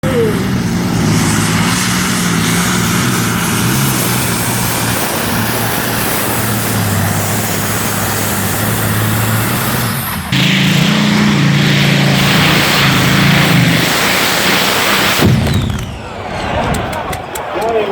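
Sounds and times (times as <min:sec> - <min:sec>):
tractor engine running under load: 0:00.0 - 0:17.8.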